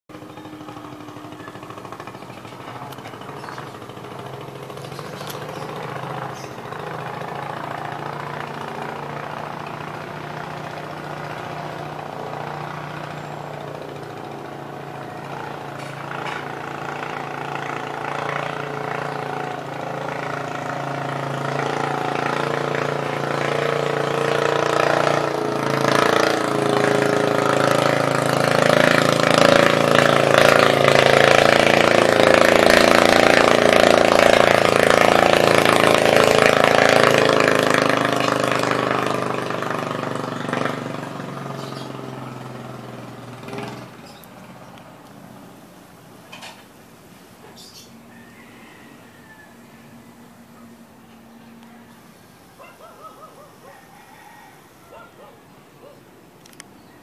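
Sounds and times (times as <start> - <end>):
motorboat engine droning: 0.1 - 57.0.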